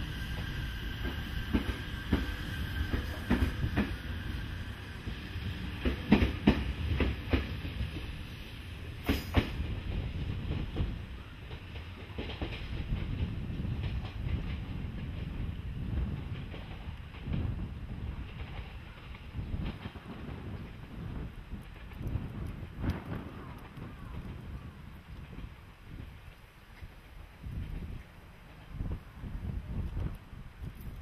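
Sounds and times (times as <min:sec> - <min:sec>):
railcar low rumble: 0:00.0 - 0:31.0.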